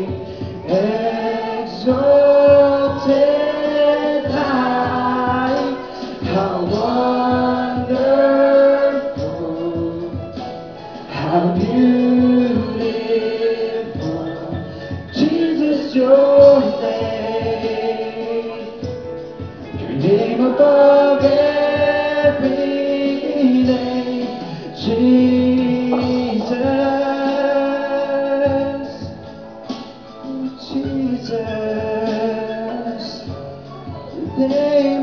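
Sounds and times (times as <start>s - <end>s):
band playing slow song: 0.0s - 35.0s
worship singers: 0.0s - 35.0s.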